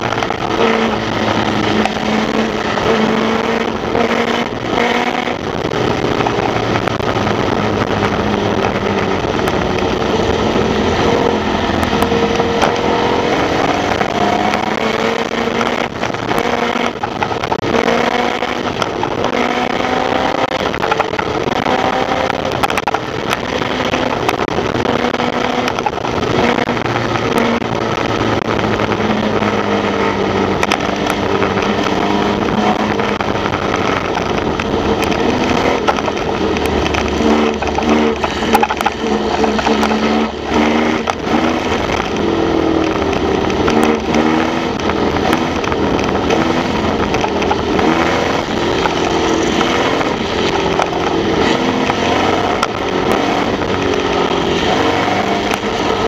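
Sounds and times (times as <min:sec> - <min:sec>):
race car engine running hard: 0:00.0 - 0:56.0
rushing noise: 0:00.0 - 0:56.0.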